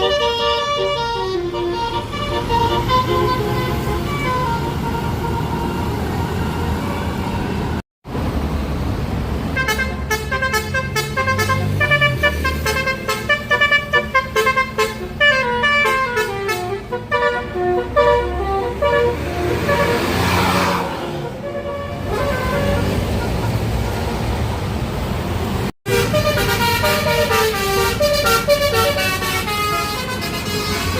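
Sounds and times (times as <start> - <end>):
bus horns playing a tune: 0.0 - 7.8, 9.5 - 24.2, 25.8 - 30.9
bus engine running: 0.0 - 30.9.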